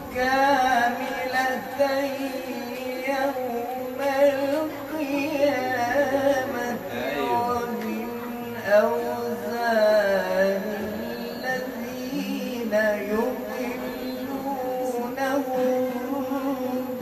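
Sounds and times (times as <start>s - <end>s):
man reciting in melodic style: 0.0s - 17.0s.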